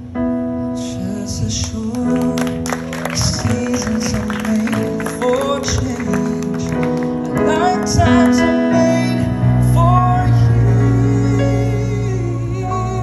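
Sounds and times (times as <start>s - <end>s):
song with singing over guitar: 0.8s - 13.0s.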